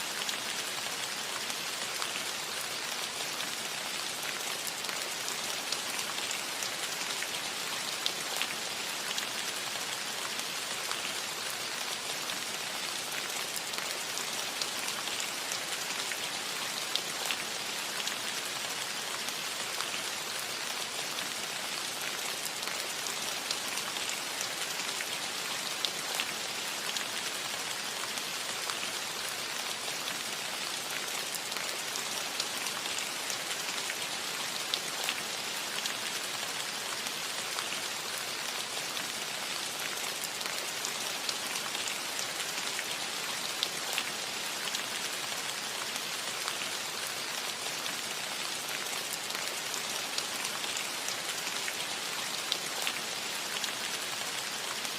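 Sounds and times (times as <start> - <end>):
rain on a metal roof: 0.0 - 54.9.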